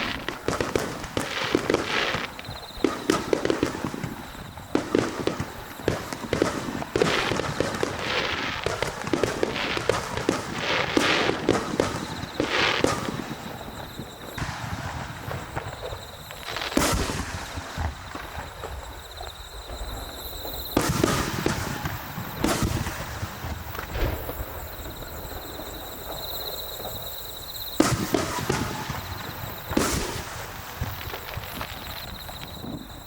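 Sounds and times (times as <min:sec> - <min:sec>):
firework shells booming: 0:00.0 - 0:19.1, 0:20.0 - 0:33.0
firework crackling reports: 0:00.0 - 0:33.0.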